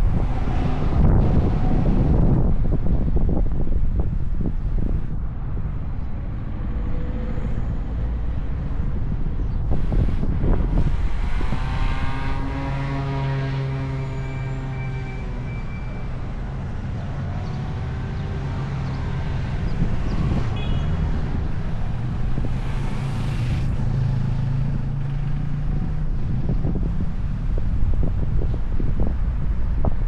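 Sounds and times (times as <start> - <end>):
gusty wind buffeting: 0.0 - 14.0, 16.1 - 30.0
road and wind noise: 0.0 - 30.0.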